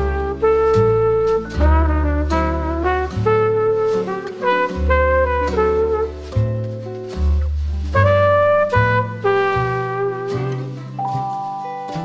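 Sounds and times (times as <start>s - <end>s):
jazzy brass melody over bass: 0.0s - 12.0s.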